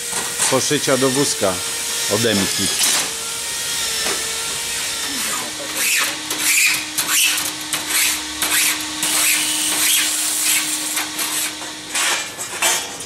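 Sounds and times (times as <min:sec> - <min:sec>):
file rasping on sheet metal: 0:00.0 - 0:11.6.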